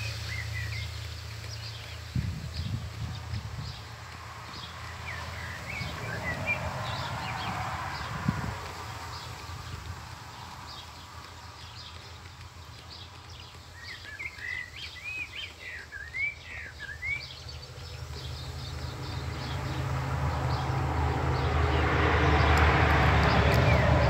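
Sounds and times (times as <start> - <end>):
bird chirping: 0.0 - 24.0
rushing noise with low rumble: 0.0 - 24.0.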